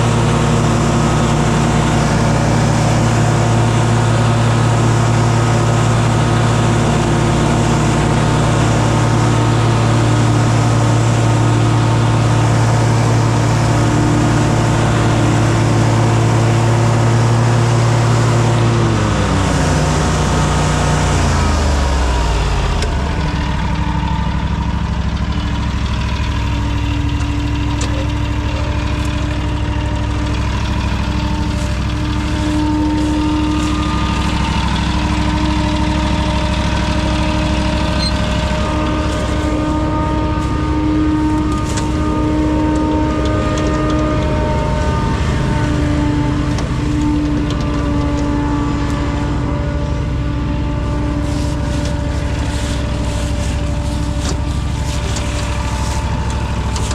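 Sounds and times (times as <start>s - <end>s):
engine throttling down to idle: 0.0s - 56.9s.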